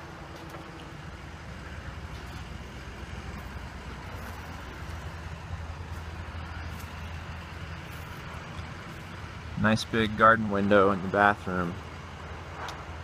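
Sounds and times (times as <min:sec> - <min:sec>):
low engine rumble: 0:00.0 - 0:13.0
outdoor background noise: 0:00.0 - 0:13.0.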